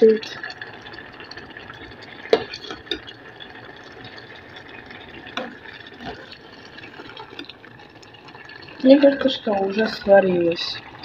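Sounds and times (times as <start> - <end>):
rice simmering in water: 0.0 - 11.0.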